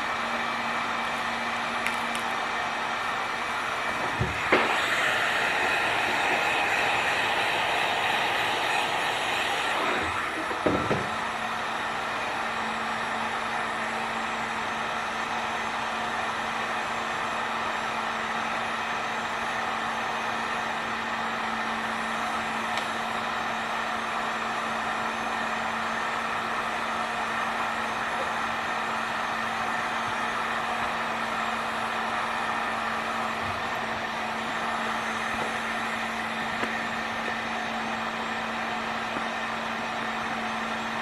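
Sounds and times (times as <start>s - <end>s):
heat gun fan humming: 0.0s - 41.0s.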